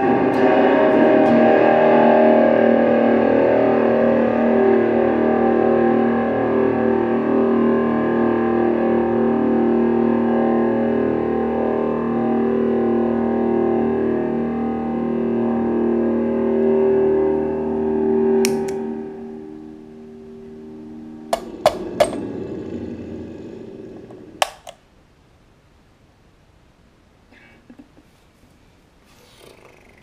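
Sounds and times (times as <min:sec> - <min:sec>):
distorted electric guitar chord: 0:00.0 - 0:24.4.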